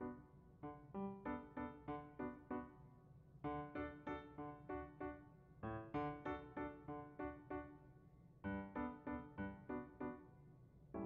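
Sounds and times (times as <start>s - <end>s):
piano-like notes: 0.0s - 2.8s, 3.4s - 7.8s, 8.5s - 10.3s.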